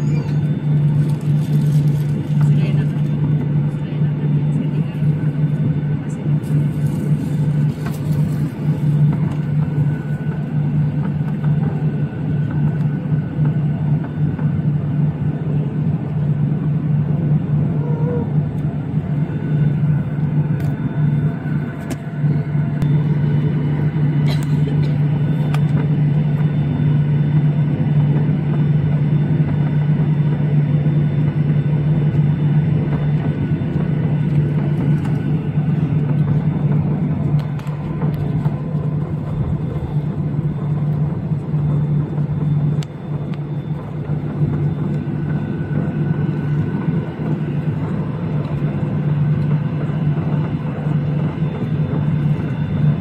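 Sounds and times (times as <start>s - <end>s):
airplane cabin drone: 0.0s - 53.0s.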